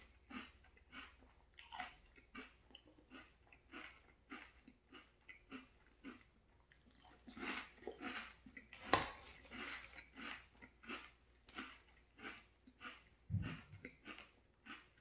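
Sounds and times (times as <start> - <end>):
crunchy chewing of cereal: 0.0 - 15.0.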